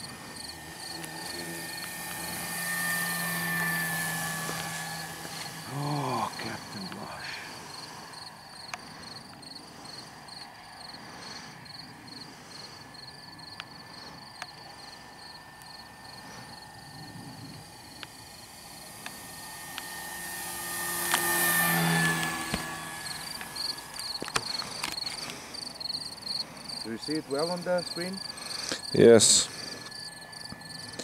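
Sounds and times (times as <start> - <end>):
crickets chirping: 0.0 - 31.0
model plane electric motor whine: 0.0 - 31.0.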